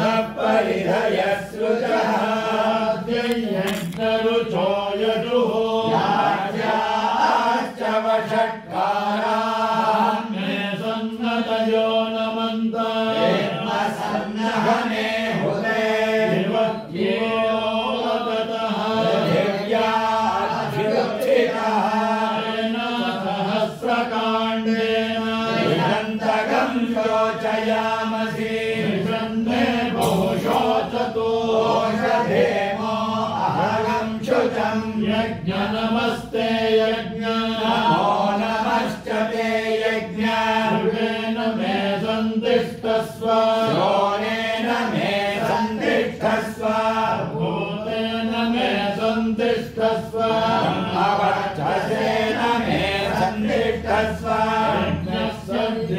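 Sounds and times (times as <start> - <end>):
voices chanting rhythmically: 0.0 - 55.9.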